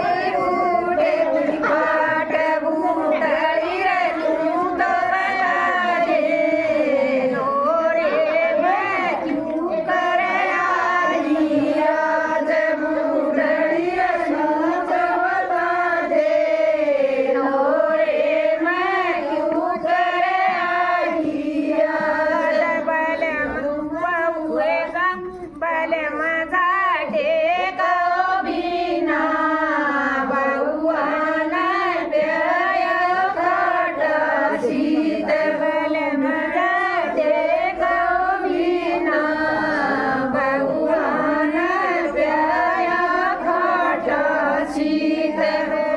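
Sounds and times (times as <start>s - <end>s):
women singing devotional song: 0.0s - 45.9s.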